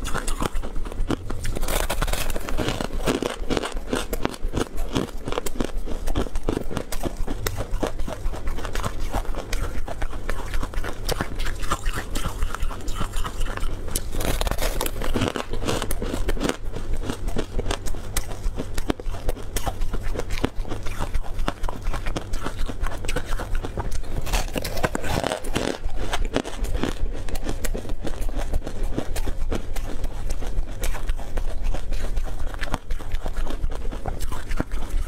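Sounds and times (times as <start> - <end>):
crunching crispy snack: 0.0 - 35.0.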